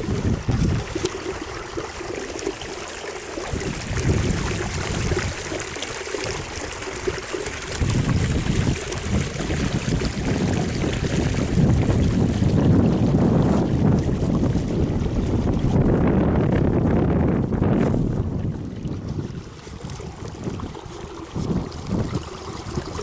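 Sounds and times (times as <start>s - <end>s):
wind buffeting microphone: 0.0s - 2.1s, 3.4s - 23.0s
water rushing and splashing: 0.0s - 23.0s.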